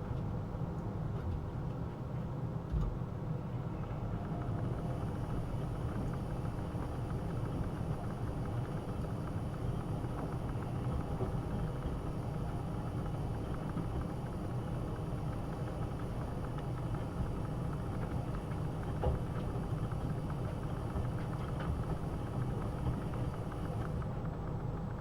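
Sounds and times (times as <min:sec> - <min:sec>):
washing machine hum and rumble: 0:00.0 - 0:25.0.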